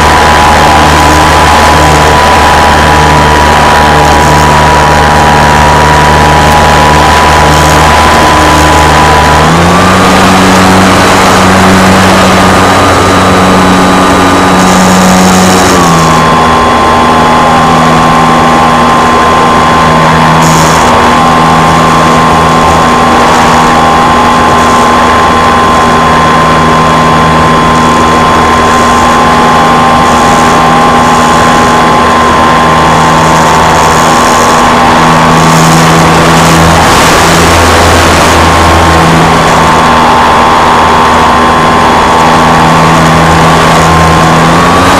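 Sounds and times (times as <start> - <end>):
model aircraft motor droning: 0.0 - 44.9.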